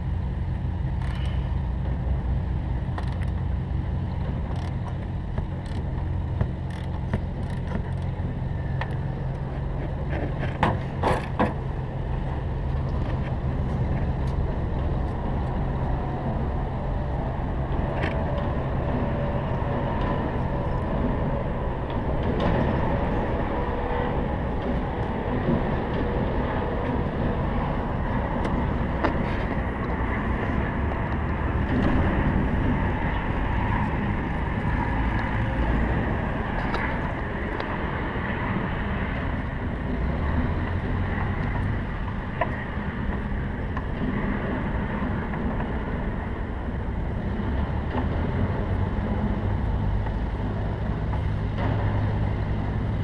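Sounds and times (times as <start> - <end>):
low engine rumble: 0.0 - 53.0.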